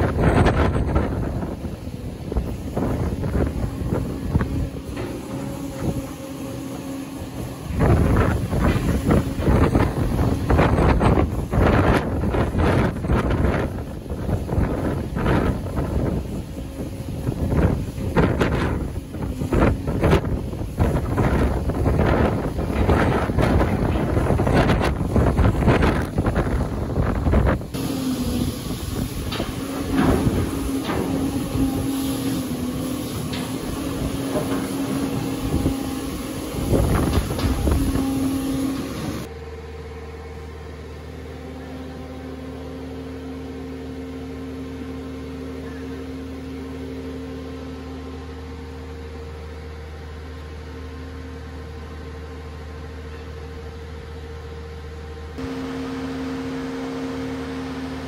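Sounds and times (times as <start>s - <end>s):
excavator engine running: 0.0s - 58.0s
low machine hum: 0.0s - 58.0s.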